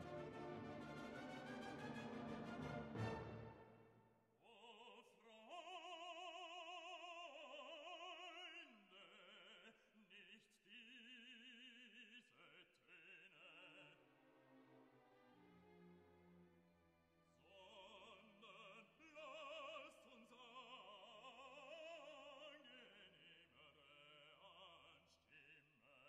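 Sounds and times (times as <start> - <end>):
operatic singing: 0.0 - 14.6, 17.4 - 26.0.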